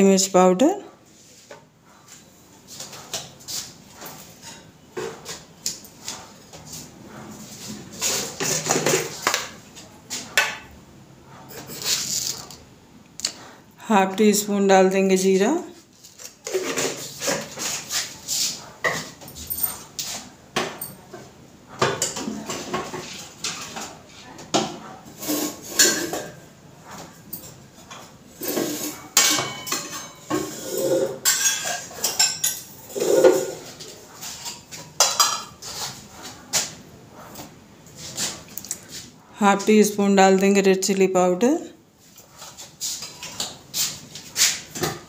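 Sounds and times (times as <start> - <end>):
kitchen utensils and dishes clattering: 1.4 - 12.7, 15.7 - 39.0, 42.1 - 45.0.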